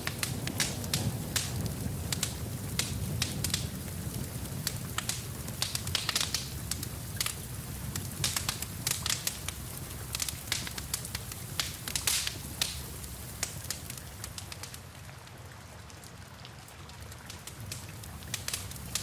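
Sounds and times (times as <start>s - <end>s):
rain falling: 0.0s - 19.0s
wood fire crackling and popping: 0.0s - 19.0s.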